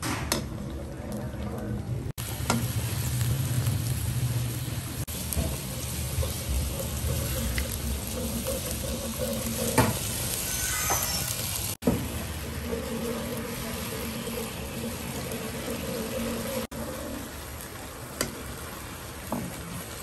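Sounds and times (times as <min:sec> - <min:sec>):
food sizzling in a wok: 0:02.2 - 0:20.0.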